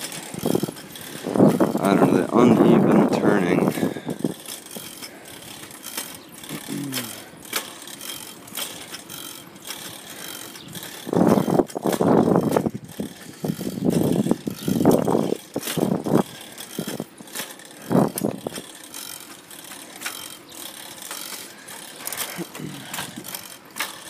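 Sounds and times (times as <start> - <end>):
bicycle chain rattling: 0.0 - 24.0.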